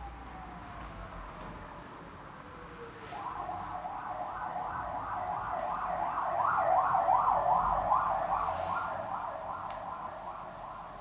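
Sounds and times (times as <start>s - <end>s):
emergency vehicle siren wailing: 0.0s - 11.0s.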